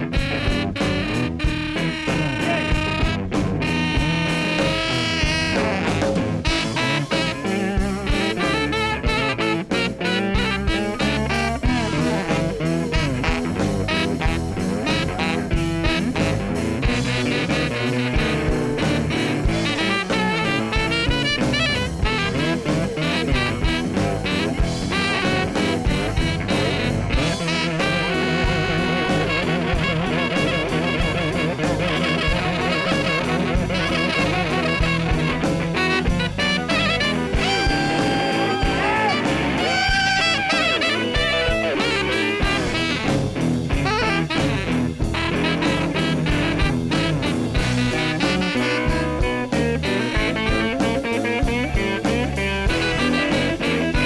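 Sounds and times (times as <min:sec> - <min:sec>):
blues band playing: 0:00.0 - 0:54.0.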